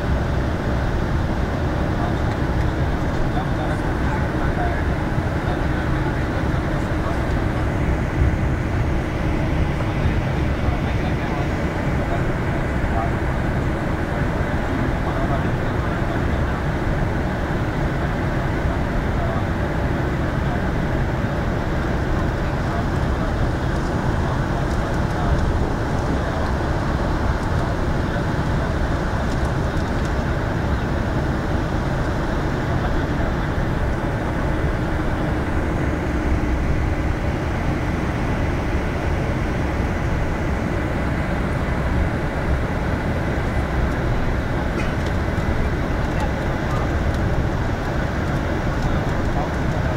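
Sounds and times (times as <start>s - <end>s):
bus engine hum: 0.0s - 49.9s.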